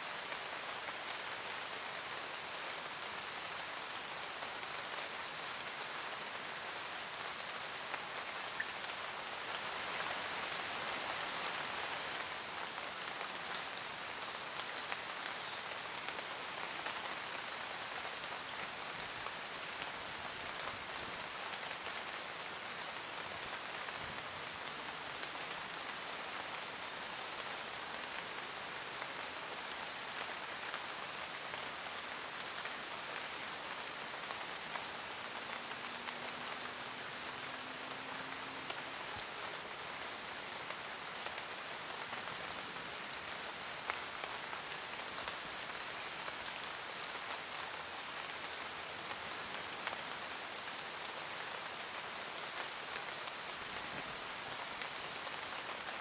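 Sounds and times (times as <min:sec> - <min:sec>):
raindrops ticking on leaves: 0:00.0 - 0:56.0.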